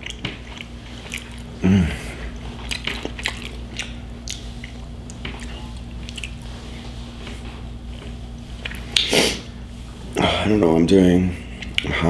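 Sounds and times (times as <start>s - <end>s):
person chewing food: 0.0s - 9.5s, 11.5s - 12.0s.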